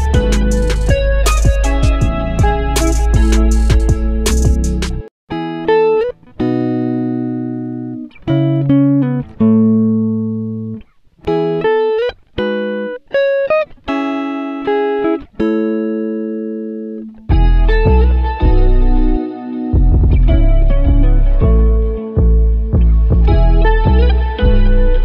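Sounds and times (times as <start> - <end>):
plucked string music: 0.0 - 25.0.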